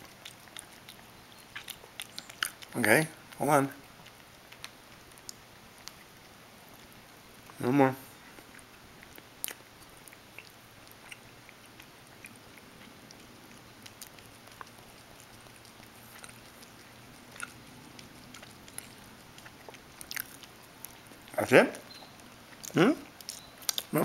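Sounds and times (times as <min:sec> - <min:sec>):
cat licking and chewing: 0:00.0 - 0:24.0.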